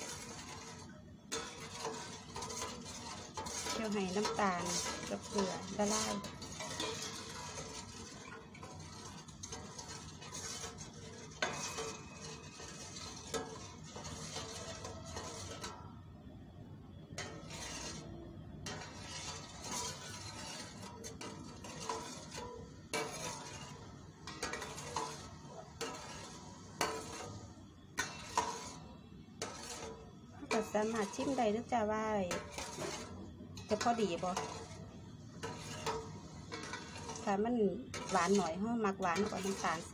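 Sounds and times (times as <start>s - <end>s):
metal spoon clinking and scraping pot: 0.0s - 16.0s, 17.1s - 39.9s.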